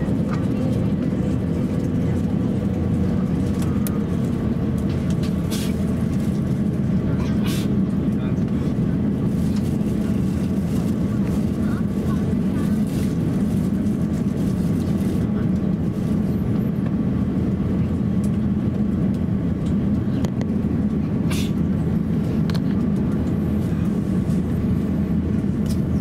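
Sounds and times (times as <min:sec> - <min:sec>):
aircraft cabin engine hum: 0:00.0 - 0:26.0.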